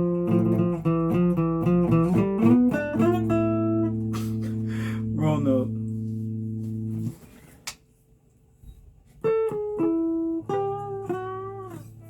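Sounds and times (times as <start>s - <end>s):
guitar chord ringing: 0.0s - 7.1s, 9.3s - 12.0s
plucked guitar notes: 0.0s - 7.2s, 9.2s - 12.0s.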